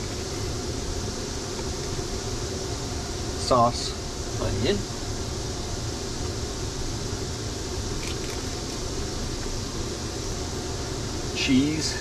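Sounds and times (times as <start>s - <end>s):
vehicle fan rushing hum: 0.0s - 12.0s.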